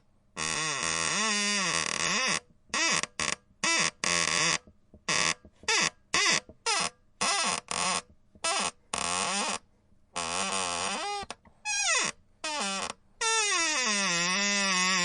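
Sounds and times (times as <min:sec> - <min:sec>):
creaking door hinge squeak: 0:00.4 - 0:09.6, 0:10.2 - 0:15.0.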